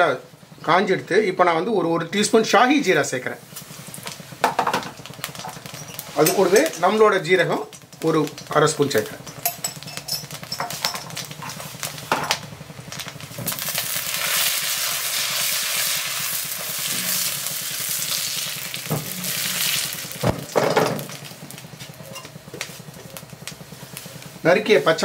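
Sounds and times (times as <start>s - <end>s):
seeds sizzling in hot fat: 1.9s - 25.0s.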